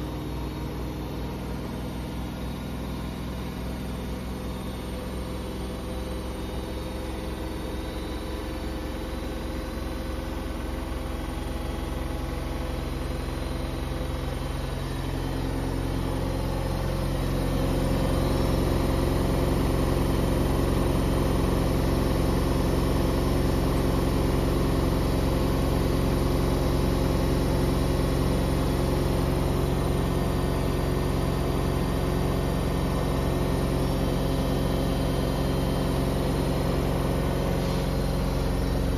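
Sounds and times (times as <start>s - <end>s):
washing machine drum spinning up: 0.0s - 38.9s.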